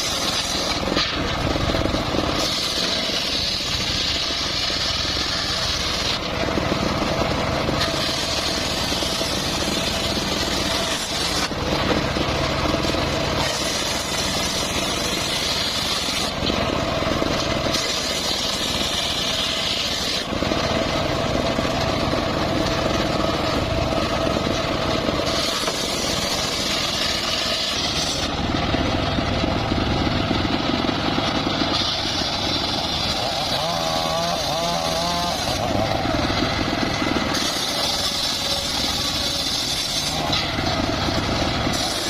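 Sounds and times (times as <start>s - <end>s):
saw blade cutting log: 0.0s - 42.0s
sawmill engine running: 0.0s - 42.0s.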